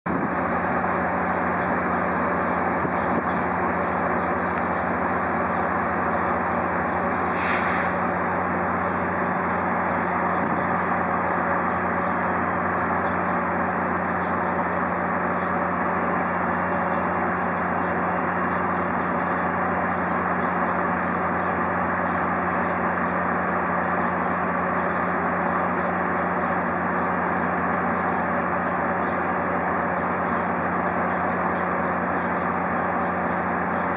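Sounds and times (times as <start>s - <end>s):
locomotive engine idling: 0.1s - 33.9s.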